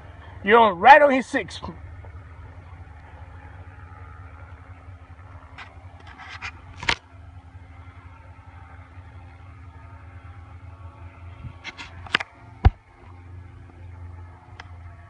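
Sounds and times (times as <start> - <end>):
paramotor engines droning: 0.0 - 15.0.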